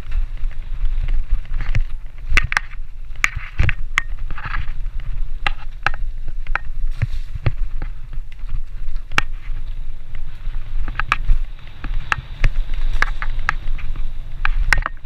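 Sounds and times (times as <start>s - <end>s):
bike knocking and clattering: 0.0s - 15.0s
dirt bike engine rumbling: 0.0s - 15.0s.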